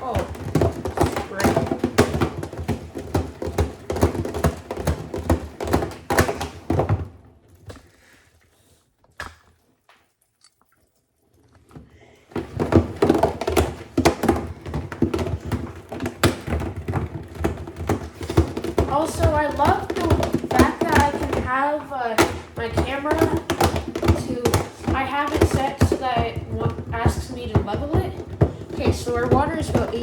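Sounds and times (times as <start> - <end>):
calculator clattering in washer drum: 0.0 - 7.2, 12.3 - 30.0.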